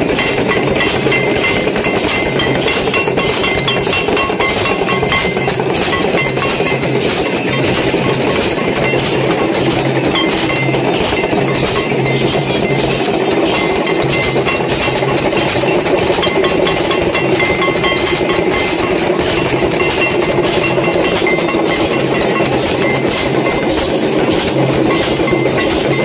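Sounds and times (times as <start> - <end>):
brass hand bell ringing: 0.0 - 26.0
metal gong plate clanging: 0.0 - 26.0.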